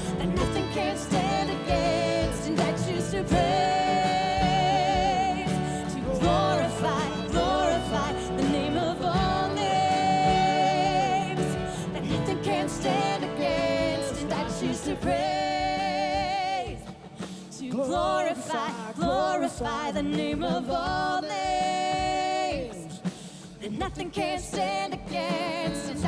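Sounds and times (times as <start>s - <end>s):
church band playing worship music: 0.0s - 26.0s
person singing with vibrato: 0.0s - 26.0s.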